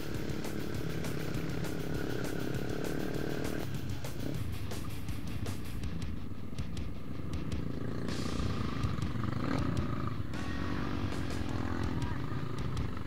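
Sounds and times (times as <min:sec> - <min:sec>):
motorcycle engine running: 0:00.0 - 0:13.0
rush of noise: 0:00.0 - 0:13.0.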